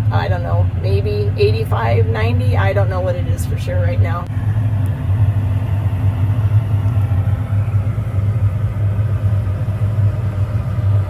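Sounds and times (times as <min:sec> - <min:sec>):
combine engine low rumble: 0:00.0 - 0:11.0.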